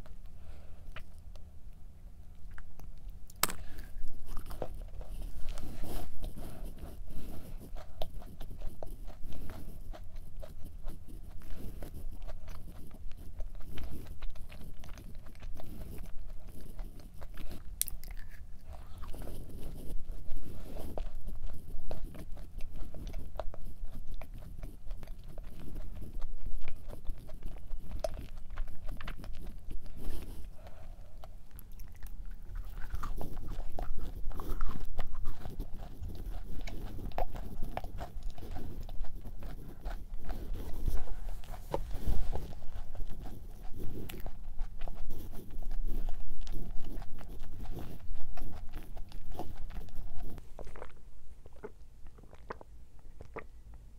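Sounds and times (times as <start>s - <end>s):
chewing cookie with crunches: 0.0s - 53.9s.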